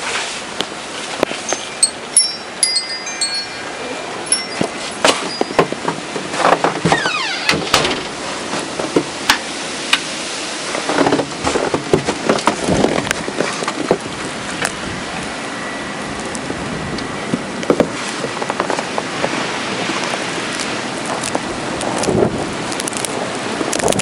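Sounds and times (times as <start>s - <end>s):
snowstorm wind blowing: 3.0s - 24.0s.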